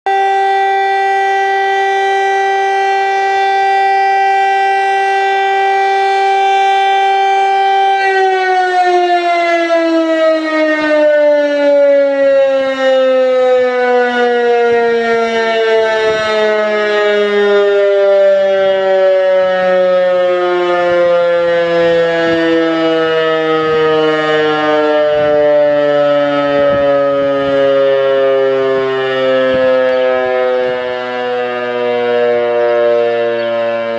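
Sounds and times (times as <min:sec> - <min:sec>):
civil defense siren: 0:00.0 - 0:33.9.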